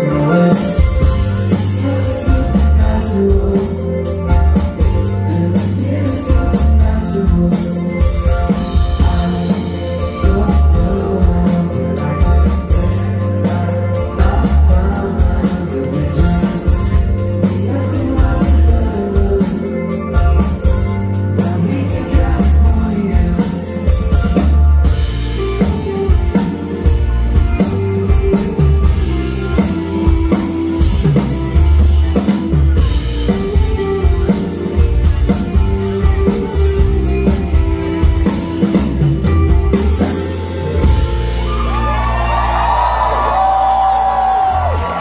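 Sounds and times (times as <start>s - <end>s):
drum kit beating: 0.0s - 45.0s
live rock band: 0.0s - 45.0s.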